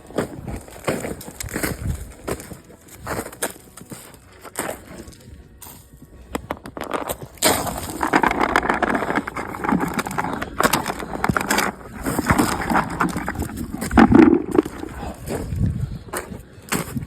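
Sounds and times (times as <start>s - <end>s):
crunching through icy snow: 0.0s - 5.2s, 6.8s - 17.0s.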